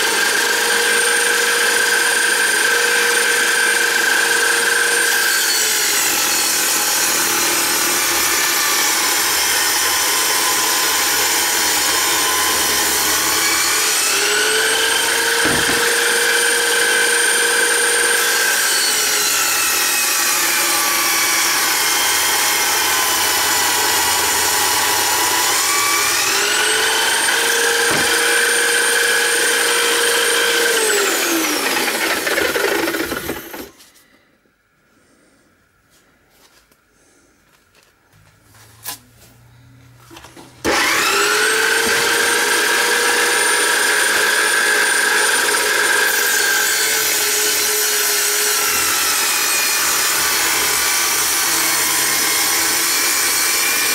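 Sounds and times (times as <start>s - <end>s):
electric drill motor whine: 0.0s - 33.8s, 40.6s - 53.9s
saw blade cutting plywood: 0.0s - 33.9s, 40.6s - 53.9s.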